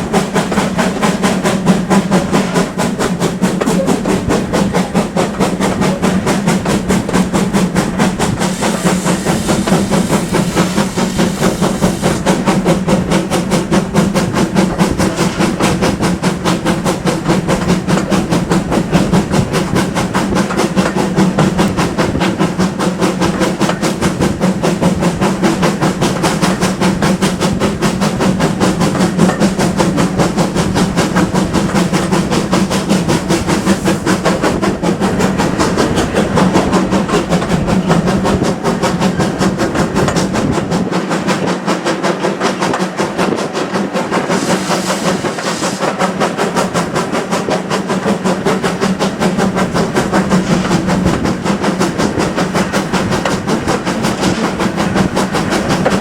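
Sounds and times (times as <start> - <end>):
steam hiss: 0.0 - 40.3, 42.9 - 56.0
rumble of moving train: 0.0 - 56.0
steam locomotive exhaust beats: 0.0 - 56.0.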